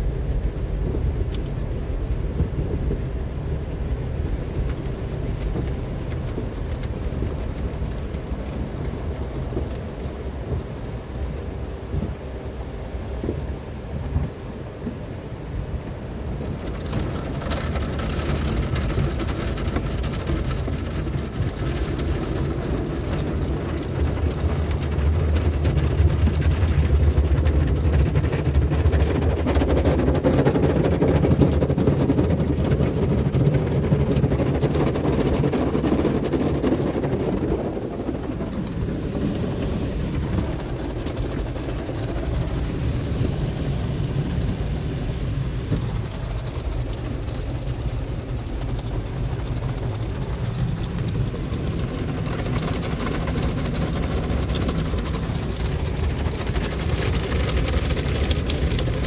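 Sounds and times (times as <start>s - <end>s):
car wash brushes slapping car: 0.0s - 59.0s
low rumble: 0.0s - 59.0s.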